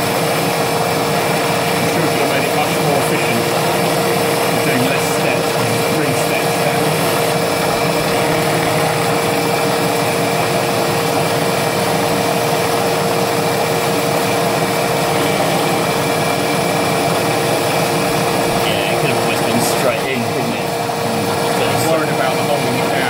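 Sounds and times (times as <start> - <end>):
milling machine cutting metal: 0.0 - 23.0
steady hum: 0.0 - 23.0.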